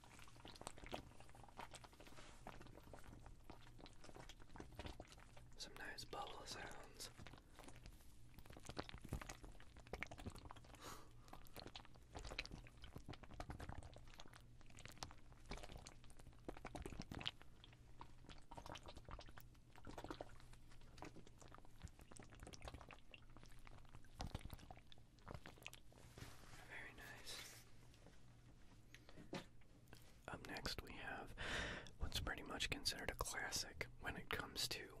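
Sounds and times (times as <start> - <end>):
soft bubbling and crackling: 0.0 - 35.0.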